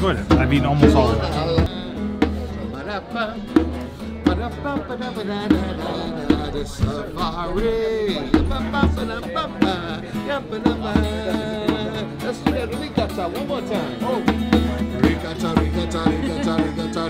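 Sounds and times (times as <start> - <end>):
djembe hand drumming: 0.0 - 2.8, 3.5 - 17.0
person singing: 0.3 - 17.0.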